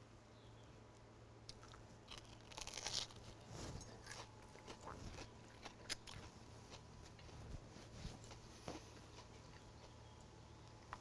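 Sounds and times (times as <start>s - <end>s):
faint chewing with soft crunches: 0.6s - 11.0s.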